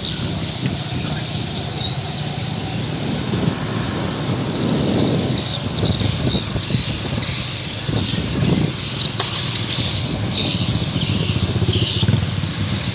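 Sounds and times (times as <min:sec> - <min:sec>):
motorcycle engine pulsing: 0:00.0 - 0:12.9.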